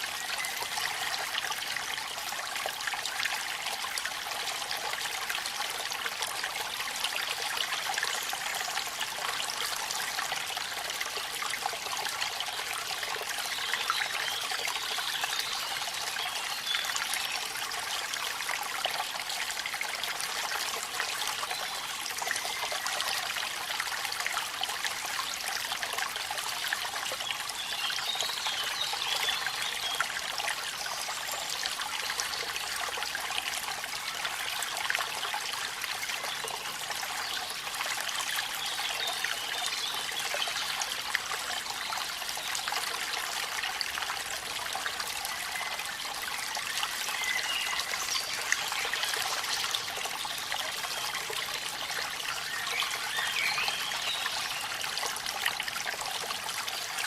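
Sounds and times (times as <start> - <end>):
waterfall running water: 0.0 - 57.0.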